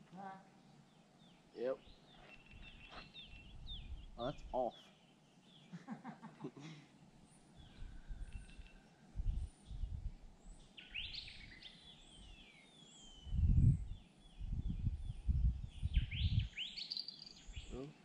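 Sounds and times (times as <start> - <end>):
wild birds chirping: 0.0 - 18.0.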